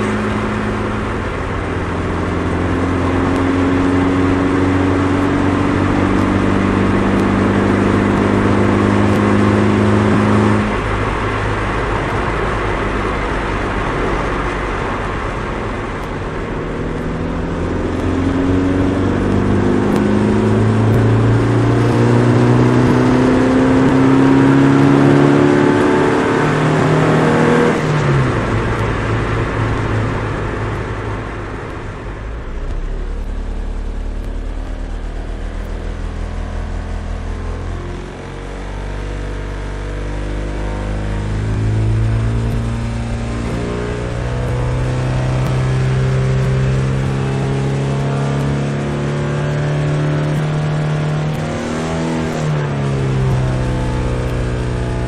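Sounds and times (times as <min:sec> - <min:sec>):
car engine droning under load: 0:00.0 - 0:55.0.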